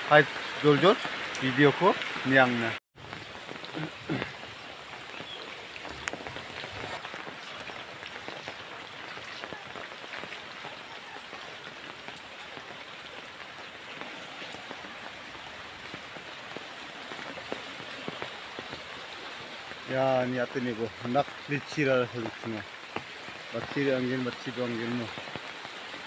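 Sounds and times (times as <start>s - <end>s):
rain falling on foliage: 0.0s - 26.0s.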